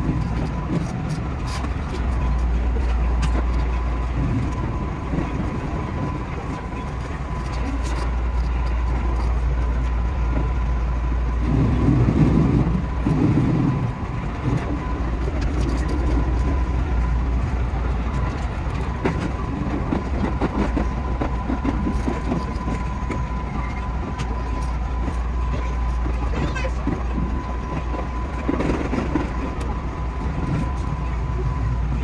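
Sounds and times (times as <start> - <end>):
train cab running rumble: 0.0 - 32.0.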